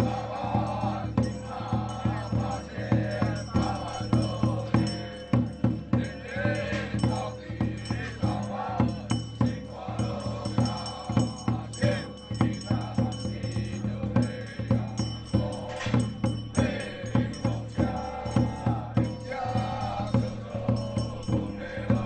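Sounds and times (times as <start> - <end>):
chanted voices: 0.0 - 22.0
percussion beats: 0.0 - 22.0.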